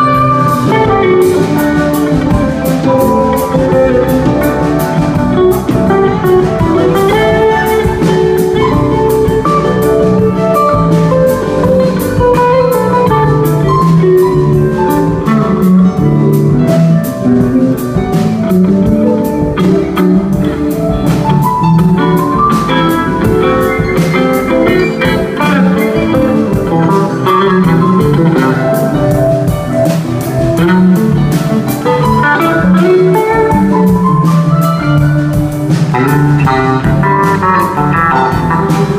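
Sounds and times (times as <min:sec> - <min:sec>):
bass guitar: 0:00.0 - 0:38.9
drum kit: 0:00.0 - 0:38.9
electric guitar fast lead: 0:00.0 - 0:38.9.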